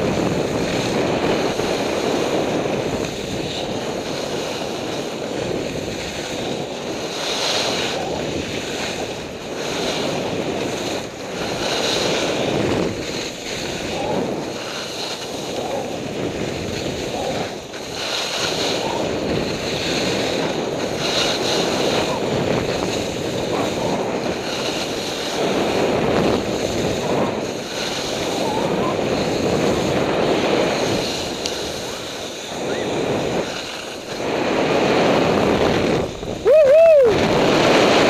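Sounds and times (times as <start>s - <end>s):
wind rushing over microphone: 0.0s - 38.0s
skis hissing on snow: 0.1s - 37.0s.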